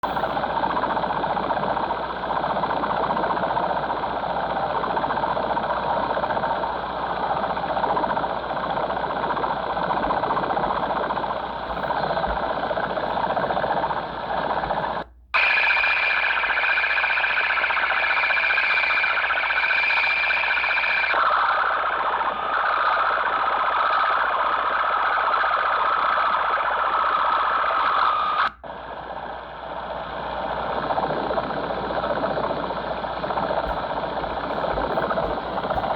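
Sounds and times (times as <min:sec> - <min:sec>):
harsh noisy radio buzz: 0:00.0 - 0:35.9
steady whining tone: 0:00.0 - 0:35.9.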